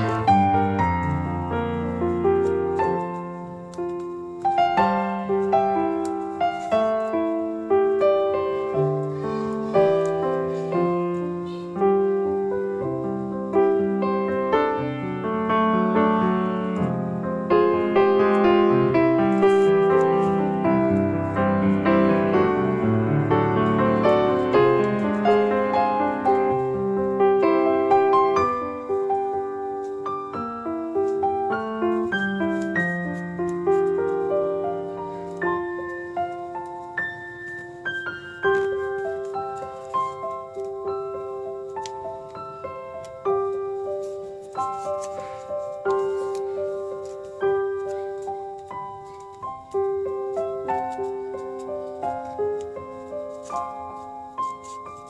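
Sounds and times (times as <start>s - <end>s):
piano melody: 0.0s - 55.0s.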